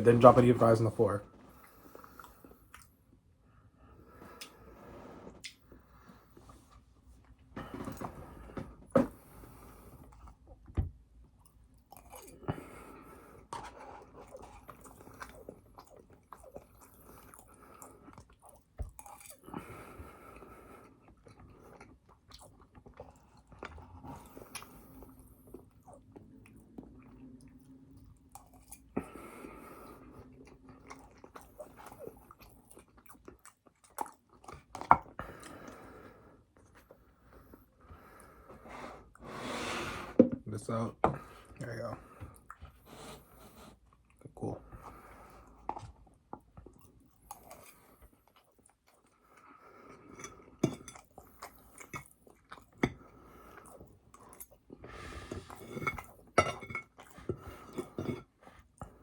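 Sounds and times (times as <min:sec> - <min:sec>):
chewing and crunching food: 0:00.0 - 0:04.8, 0:05.4 - 0:39.2, 0:40.6 - 0:59.0.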